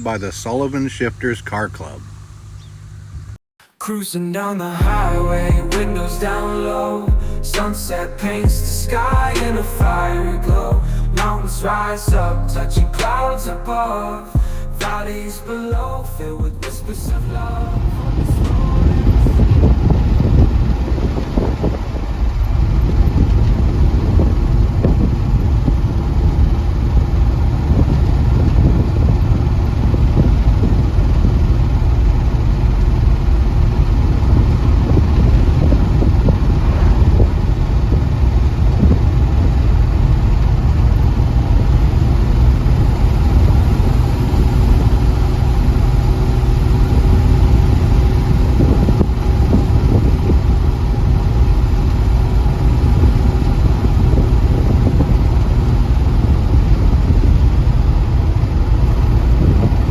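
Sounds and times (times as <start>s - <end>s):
car engine and road noise: 0.0s - 3.4s, 4.8s - 59.9s.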